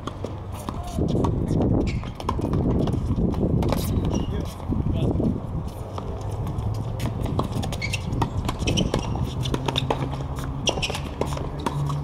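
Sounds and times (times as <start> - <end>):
racket hitting tennis ball: 0.0 - 4.3, 5.8 - 12.0
ball bouncing on hard court: 0.0 - 4.5, 5.9 - 12.0
running footsteps and shoe scuffs: 0.0 - 12.0.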